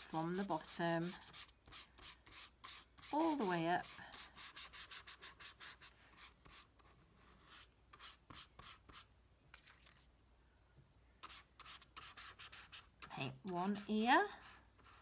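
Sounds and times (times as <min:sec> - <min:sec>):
paintbrush strokes on paper: 0:00.0 - 0:10.1, 0:11.2 - 0:15.0.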